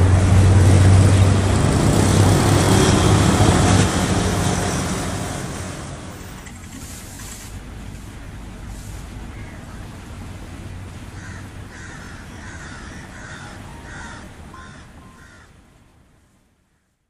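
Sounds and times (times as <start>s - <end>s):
low background rumble: 0.0s - 15.4s.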